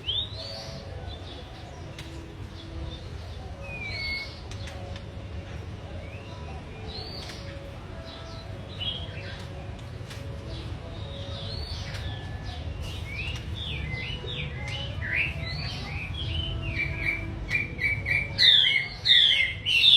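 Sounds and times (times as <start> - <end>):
songbird singing: 0.0 - 19.9.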